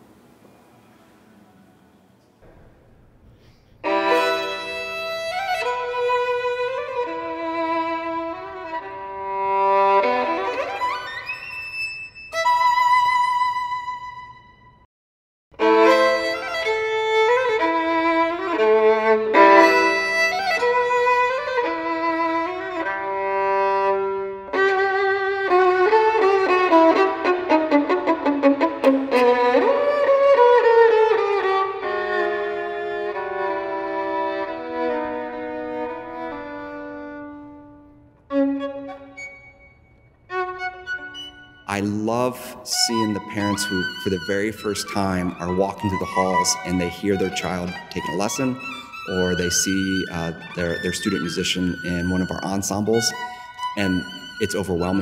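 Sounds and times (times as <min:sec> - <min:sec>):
violin playing sustained notes: 0:03.8 - 0:14.8, 0:15.6 - 0:55.0.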